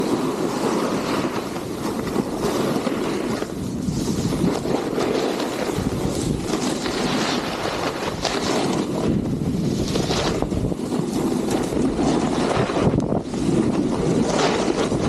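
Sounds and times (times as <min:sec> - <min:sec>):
snowboard edge scraping snow: 0:00.0 - 0:15.0
wind rumble on microphone: 0:00.0 - 0:15.0.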